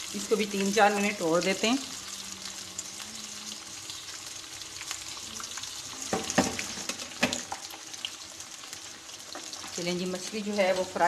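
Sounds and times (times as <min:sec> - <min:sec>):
fish sizzling in hot oil: 0:00.0 - 0:11.0
oil crackling and popping: 0:00.0 - 0:11.0.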